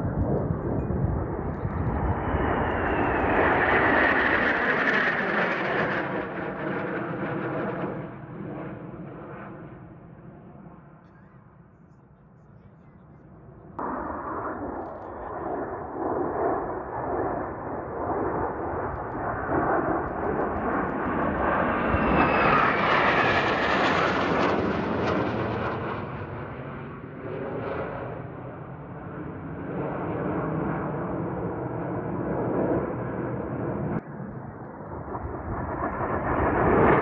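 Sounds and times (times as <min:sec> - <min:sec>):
jets flying past: 0:00.0 - 0:11.0, 0:13.7 - 0:37.0.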